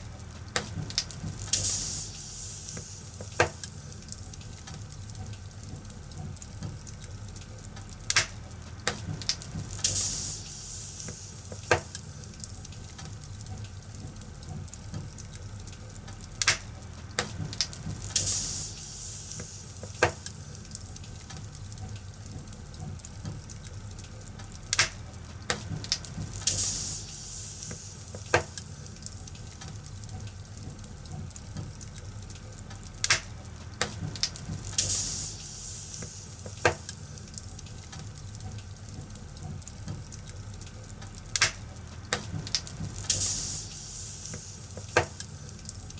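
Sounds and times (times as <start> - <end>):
fire crackling in fireplace: 0.0 - 45.9
fire popping: 0.0 - 45.9.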